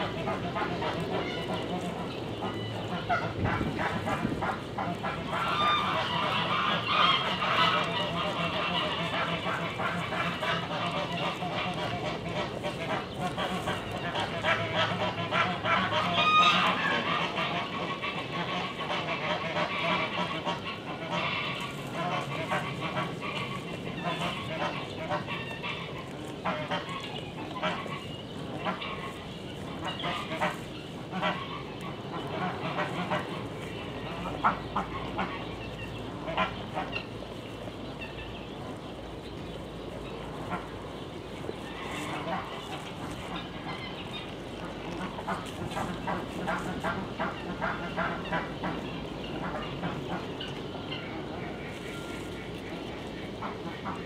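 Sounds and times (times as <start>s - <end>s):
farmyard birds calling: 0.0s - 54.0s
low steady hum: 0.0s - 54.0s.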